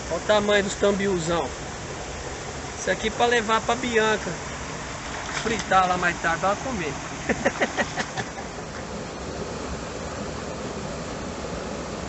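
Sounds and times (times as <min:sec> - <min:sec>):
waterfall and creek rushing: 0:00.0 - 0:12.0.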